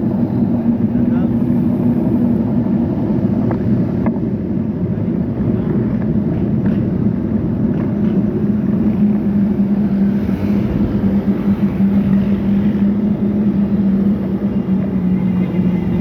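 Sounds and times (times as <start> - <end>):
vehicle engine humming: 0.0 - 16.0
wind rumble on microphone: 0.0 - 16.0.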